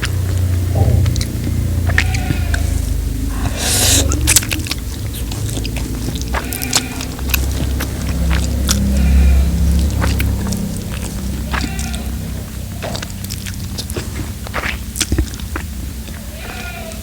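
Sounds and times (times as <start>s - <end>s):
close chewing and mouth clicks: 0.0s - 17.0s.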